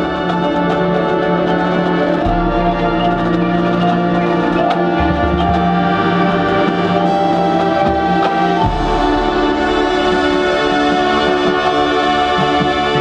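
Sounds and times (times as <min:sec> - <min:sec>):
marching band playing: 0:00.1 - 0:13.0.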